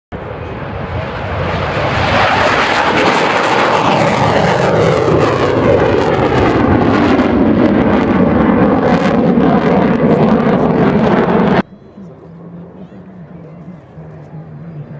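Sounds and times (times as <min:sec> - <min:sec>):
jet engine at take-off power: 0:00.1 - 0:14.9.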